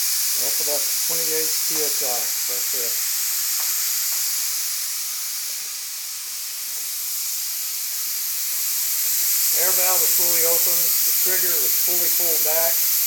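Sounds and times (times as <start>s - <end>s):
spray gun air hissing: 0.0s - 13.0s.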